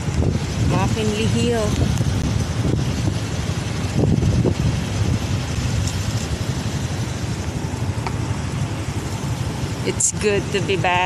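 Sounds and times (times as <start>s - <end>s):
passing cars hum: 0.0s - 11.0s.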